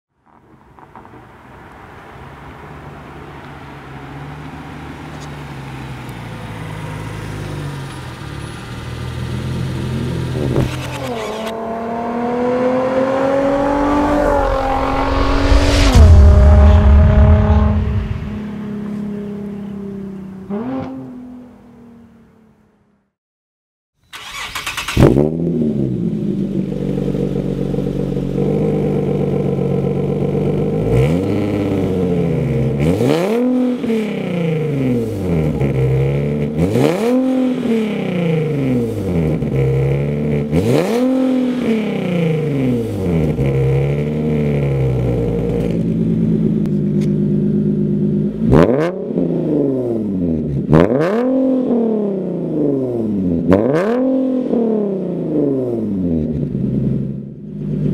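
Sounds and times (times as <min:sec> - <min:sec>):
car engine idling and revving: 0:00.3 - 0:22.8, 0:24.1 - 0:57.9.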